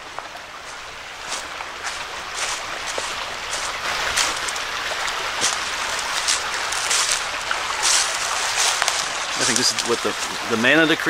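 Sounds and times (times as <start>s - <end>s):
footsteps crunching on trail: 0.0s - 10.7s
creek rushing: 0.0s - 11.0s.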